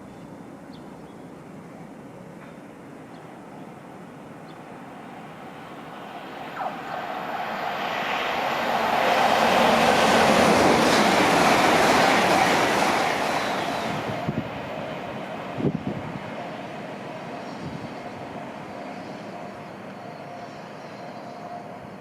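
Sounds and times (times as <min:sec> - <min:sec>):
train passing: 0:02.0 - 0:22.0.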